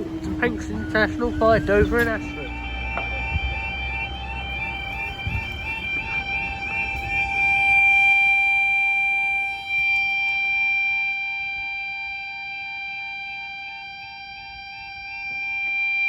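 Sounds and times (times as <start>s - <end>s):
steady high alarm tone: 0.0s - 16.0s
yelping warble alarm: 0.0s - 16.0s.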